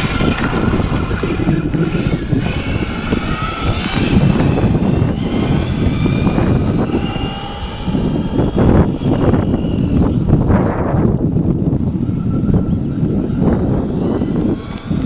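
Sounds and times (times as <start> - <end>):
electric motor and gear whine: 0.0 - 15.0.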